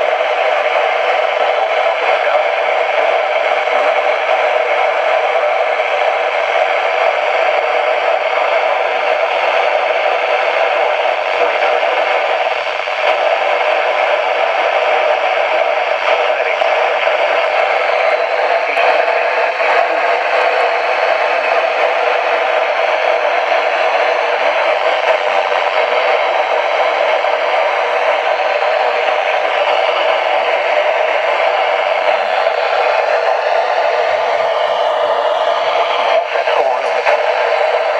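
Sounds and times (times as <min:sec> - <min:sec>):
radio static hiss: 0:00.0 - 0:37.9.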